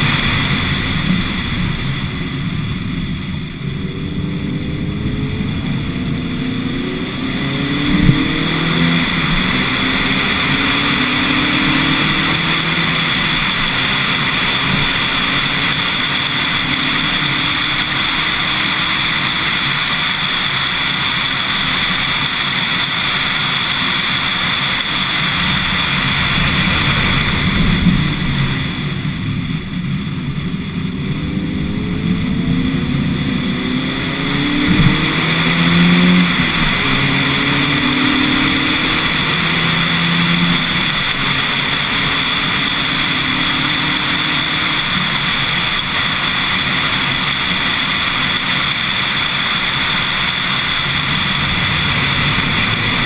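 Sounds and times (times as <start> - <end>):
car engine accelerating: 0.0 - 53.0
steady rushing noise: 0.0 - 53.0.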